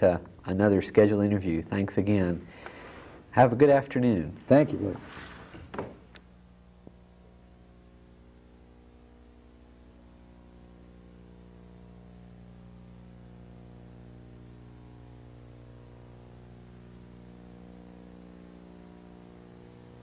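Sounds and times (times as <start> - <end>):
faint hiss: 0.0 - 20.0
low electrical hum: 0.0 - 20.0.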